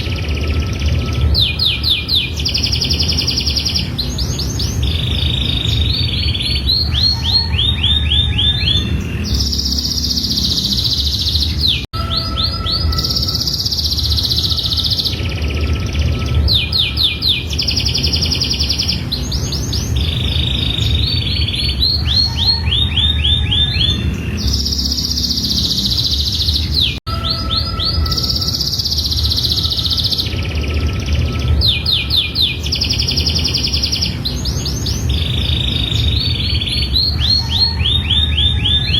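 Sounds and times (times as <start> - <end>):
canary singing trills: 0.0 - 38.9
steady low rumble: 0.0 - 38.9.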